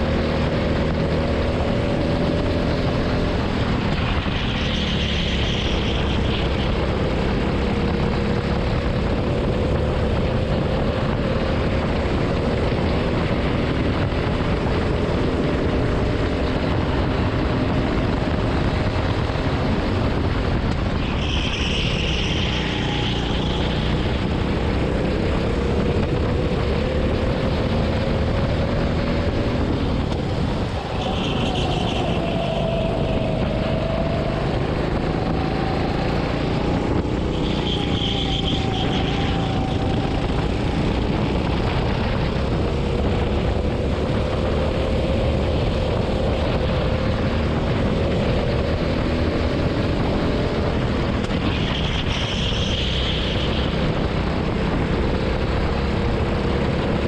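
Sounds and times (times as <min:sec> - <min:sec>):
kart engine revving: 0:00.0 - 0:57.0
wind and road noise: 0:00.0 - 0:57.0.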